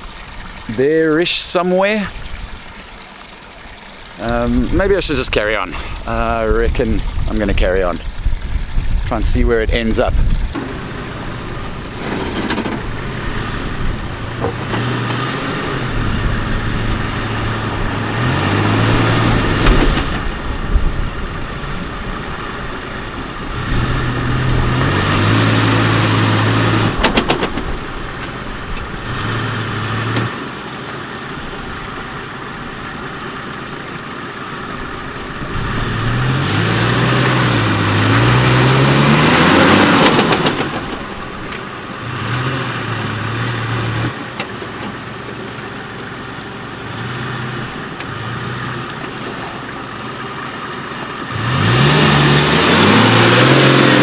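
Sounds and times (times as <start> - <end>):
off-road vehicle engine climbing: 0.0 - 54.0.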